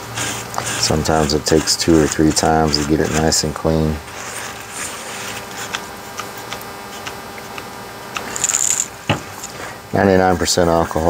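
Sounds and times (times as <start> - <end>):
paper towel rubbing circuit board: 0.0 - 9.5.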